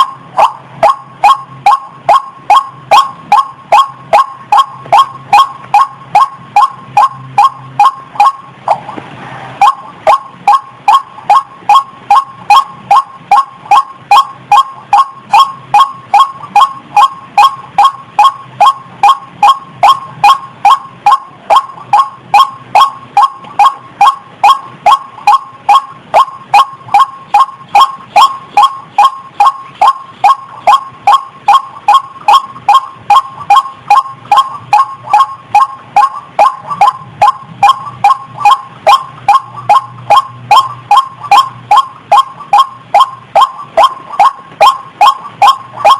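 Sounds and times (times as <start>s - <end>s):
rail bird calling: 0.0s - 9.0s, 9.6s - 45.9s.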